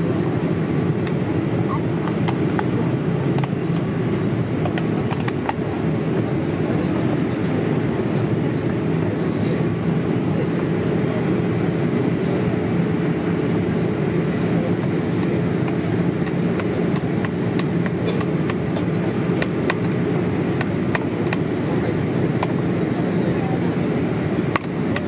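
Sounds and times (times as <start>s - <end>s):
airliner cabin roar: 0.0s - 25.0s.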